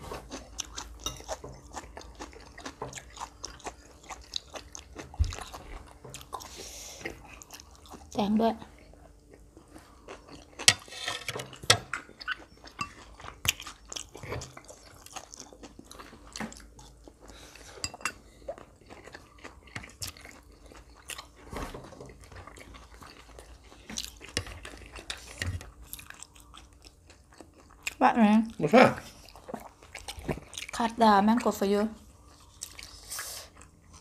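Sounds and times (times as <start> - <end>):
people chewing crunchy food: 0.0 - 34.0.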